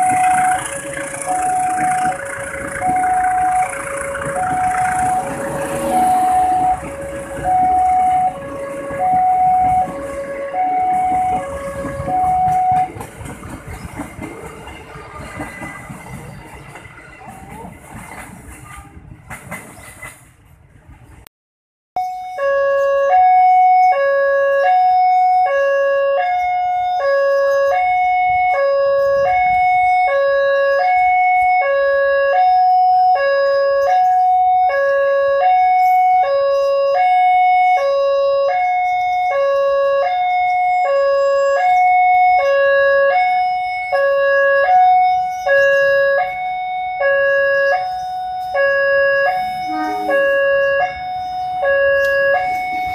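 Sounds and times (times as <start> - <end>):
level crossing two-tone alarm: 0.0 - 13.0, 22.0 - 52.9.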